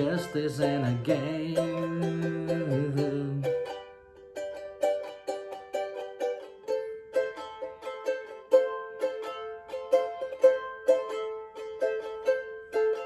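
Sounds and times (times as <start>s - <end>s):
ukulele strumming: 0.0s - 13.0s.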